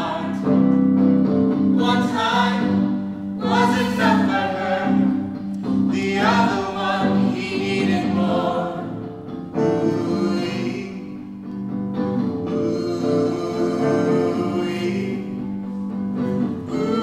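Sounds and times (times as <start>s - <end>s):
group of voices singing: 0.0s - 11.5s, 12.4s - 17.0s.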